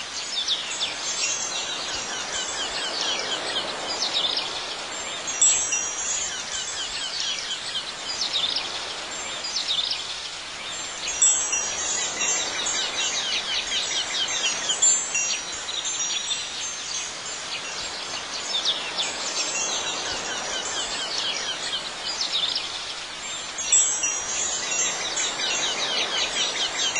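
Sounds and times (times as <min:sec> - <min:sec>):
wind chimes tinkling: 0:00.2 - 0:26.9.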